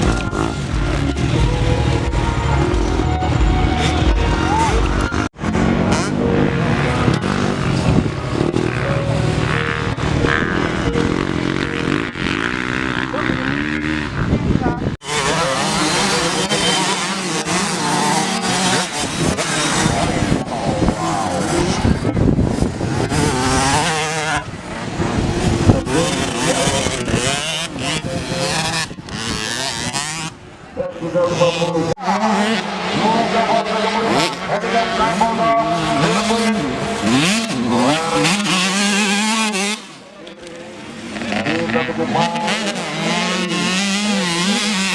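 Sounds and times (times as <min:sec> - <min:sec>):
motocross engines revving: 0:00.0 - 0:44.9.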